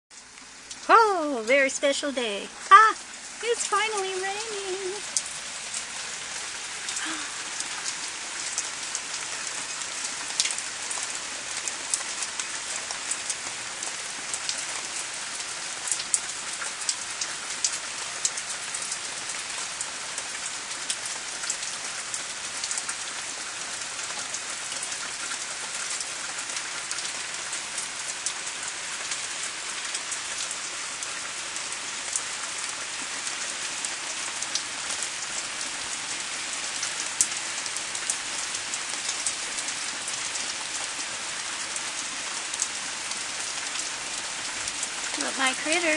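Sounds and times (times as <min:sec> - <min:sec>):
raindrops ticking close by: 0:00.1 - 0:45.9
steady rain hiss: 0:00.2 - 0:45.9.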